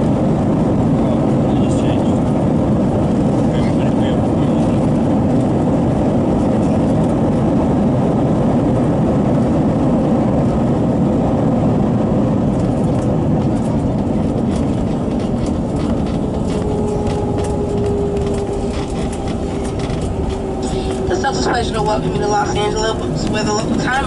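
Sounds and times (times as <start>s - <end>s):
jet engines and wheels rumbling: 0.0s - 24.0s
steady whine: 0.0s - 24.0s.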